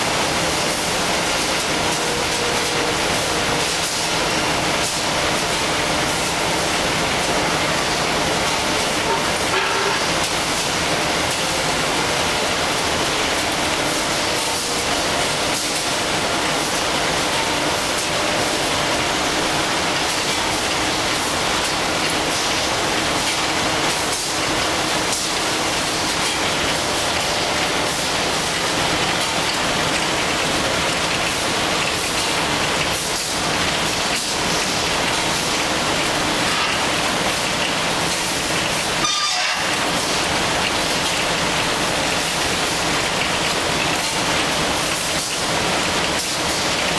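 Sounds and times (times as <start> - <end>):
production line machinery noise: 0.0 - 46.9.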